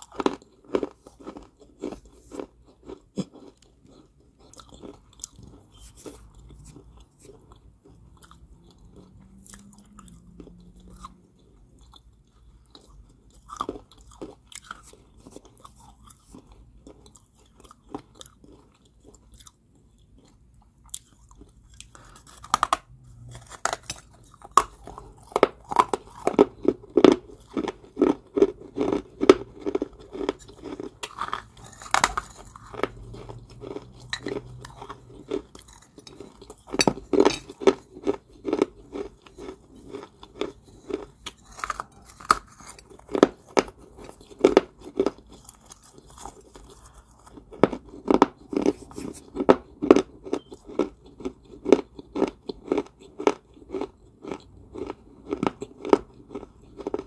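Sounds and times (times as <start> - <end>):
person chewing crunchy clay: 0.0 - 57.0.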